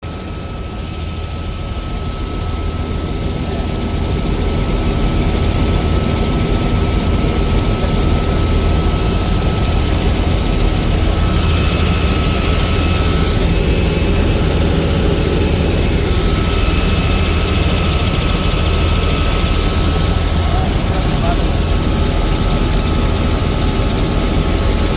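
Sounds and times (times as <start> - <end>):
helicopter rotor and engine drone: 0.0 - 24.9
thin steady whine: 0.1 - 24.9.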